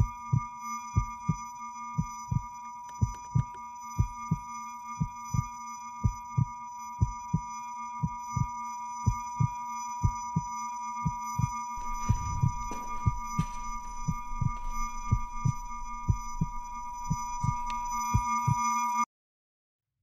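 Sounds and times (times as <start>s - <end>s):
heartbeat: 2.0s - 18.6s.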